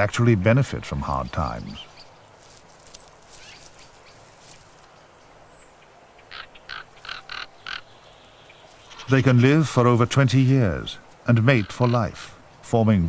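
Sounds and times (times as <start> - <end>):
ravens croaking: 0.0 - 12.9.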